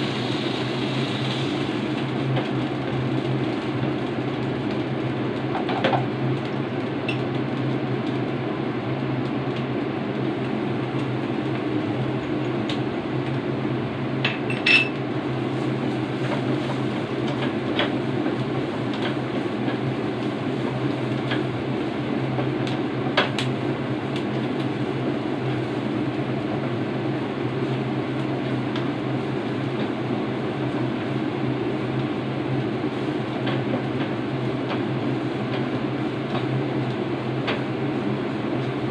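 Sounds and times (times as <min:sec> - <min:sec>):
steady hum and hiss: 0:00.0 - 0:38.9.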